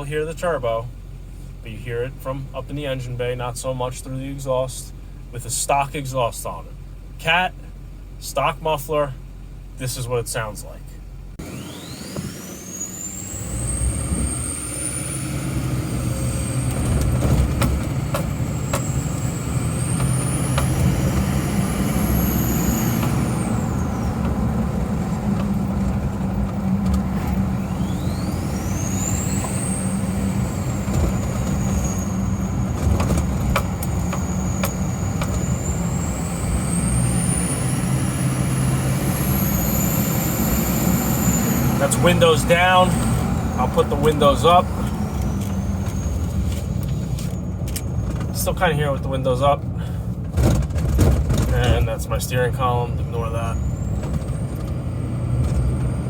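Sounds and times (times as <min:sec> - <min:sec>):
diesel engine low drone: 0:00.0 - 0:56.0.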